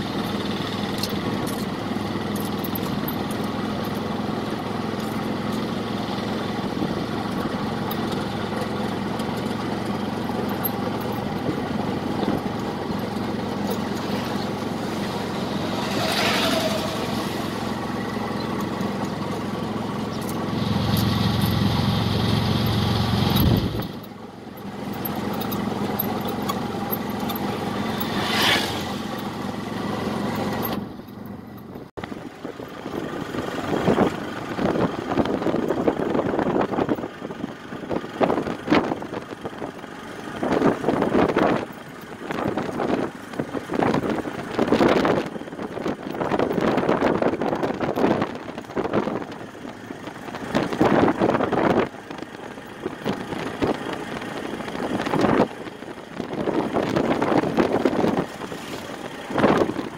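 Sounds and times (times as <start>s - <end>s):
auto-rickshaw engine running: 0.0s - 59.9s
road noise: 0.0s - 59.9s.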